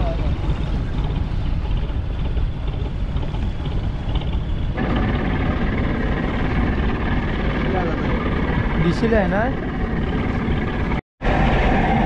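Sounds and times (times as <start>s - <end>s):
boat engine rumbling: 0.0s - 12.0s
higher steady engine tone: 0.0s - 12.0s
wind on microphone: 0.0s - 12.0s.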